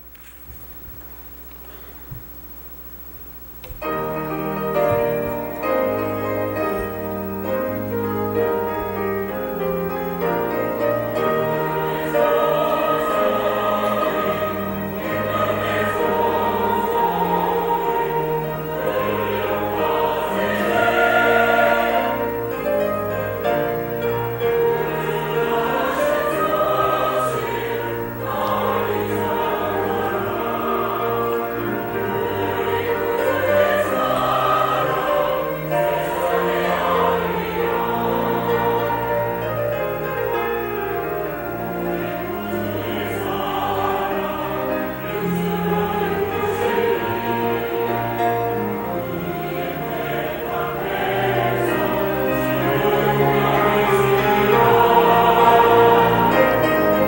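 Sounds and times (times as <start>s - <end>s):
church choir singing: 3.6s - 57.0s.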